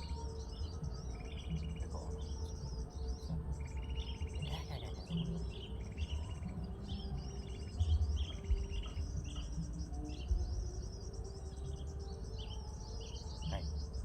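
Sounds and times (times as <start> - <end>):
steady low rumble: 0.0 - 11.4
small birds chirping and trilling: 0.0 - 14.0.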